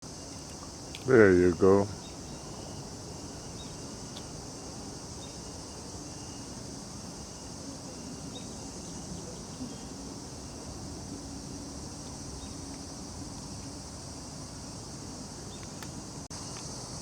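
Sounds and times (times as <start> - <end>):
crickets buzzing: 0.0 - 17.0.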